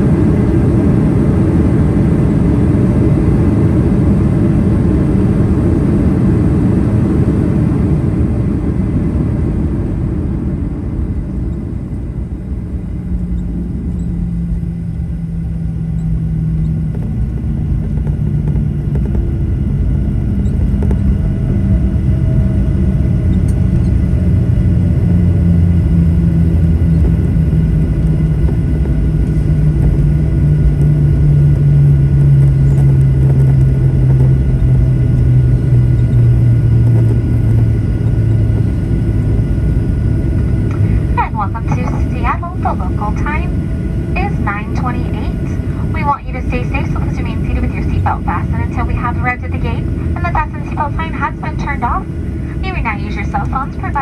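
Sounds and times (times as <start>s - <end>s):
aircraft rollout rumble: 0.0s - 54.0s
jet engine hum: 0.0s - 54.0s.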